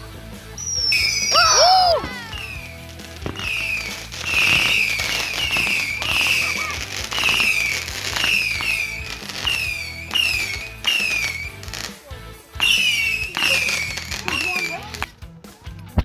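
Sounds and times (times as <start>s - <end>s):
firework crackling: 0.5s - 15.2s
firework whistles falling in pitch: 0.6s - 12.0s, 12.6s - 15.1s.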